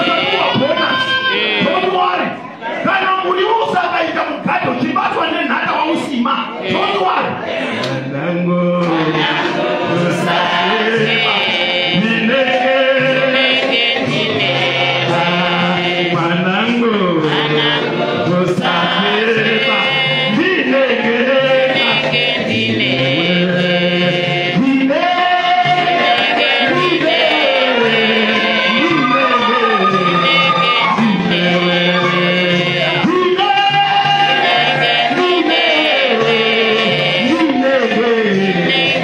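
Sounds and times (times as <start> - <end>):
man singing church chant: 0.0 - 39.0.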